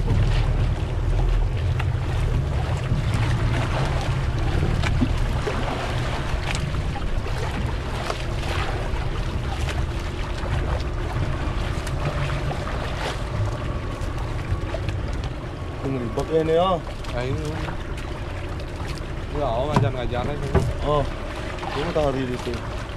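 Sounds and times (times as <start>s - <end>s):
small knocks and splashes: 0.0s - 15.6s, 16.8s - 22.9s
water washing against hull: 0.0s - 22.9s
wind rumble on microphone: 0.0s - 22.9s.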